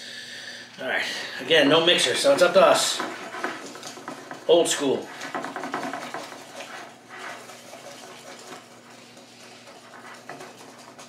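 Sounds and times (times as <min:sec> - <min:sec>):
whisk beating batter in bowl: 0:01.4 - 0:11.0.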